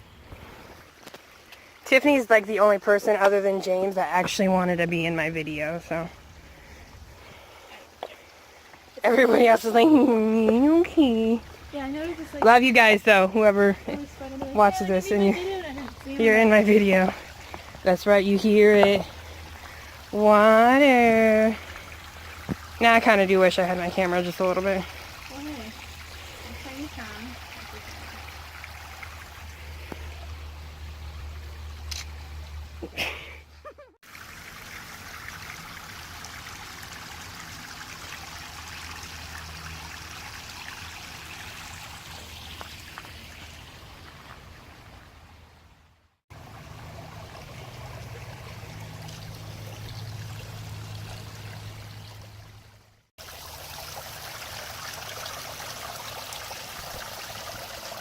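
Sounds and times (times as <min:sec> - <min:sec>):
brook water trickling: 0:00.0 - 0:58.0.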